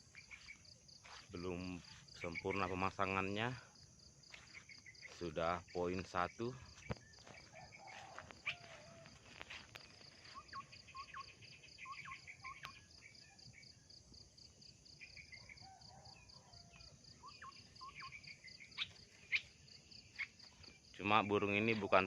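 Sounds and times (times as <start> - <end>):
birds calling: 0.0 - 13.9, 14.9 - 22.0
insects chirping: 0.0 - 22.0.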